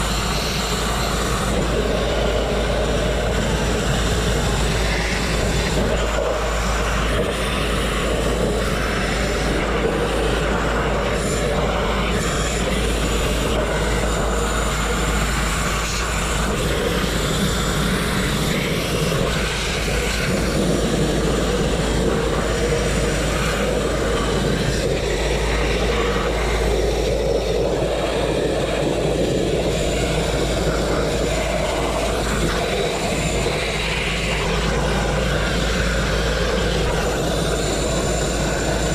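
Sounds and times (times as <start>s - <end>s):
grit blasting hissing roar: 0.0s - 38.9s.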